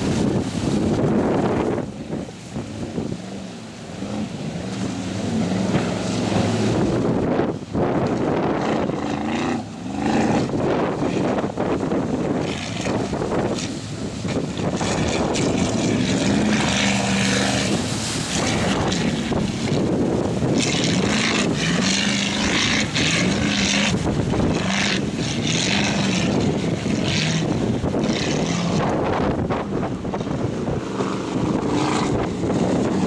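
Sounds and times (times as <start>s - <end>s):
powerboat engines droning: 0.0s - 33.0s
wind buffeting microphone: 0.0s - 33.0s.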